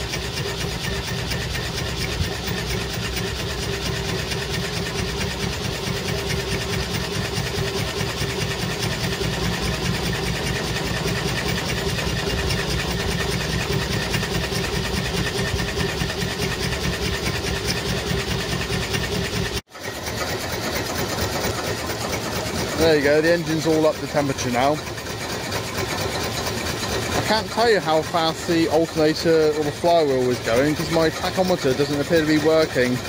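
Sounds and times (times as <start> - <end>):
engine mechanical clatter: 0.0 - 33.0.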